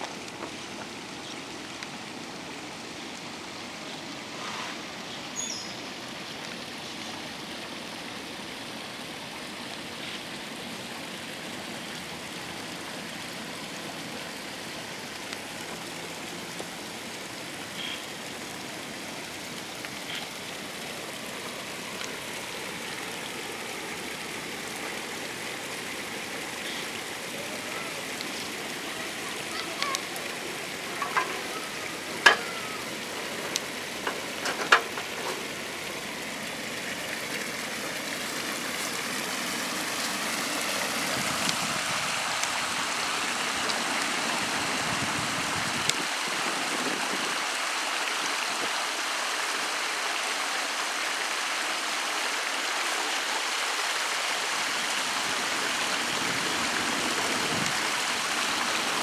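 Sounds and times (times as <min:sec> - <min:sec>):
water running over rocks: 0:00.0 - 0:59.0.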